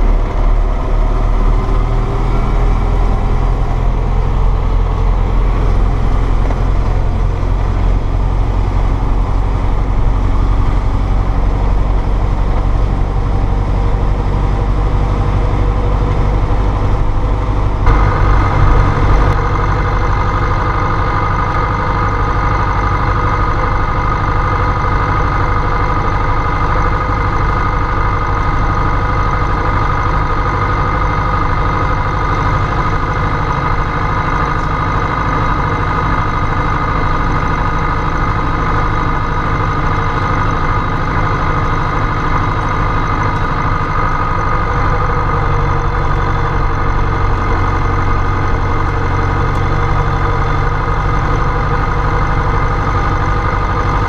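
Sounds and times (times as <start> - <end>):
steady high whine: 0.0 - 54.0
tractor diesel engine running: 0.0 - 54.0.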